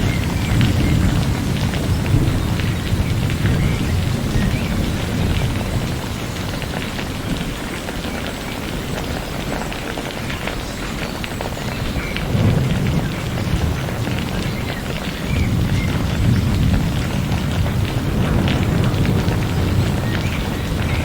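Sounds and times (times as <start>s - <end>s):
low rumble of thunder: 0.0s - 8.9s, 11.6s - 21.0s
steady rain with drops ticking: 0.0s - 21.0s.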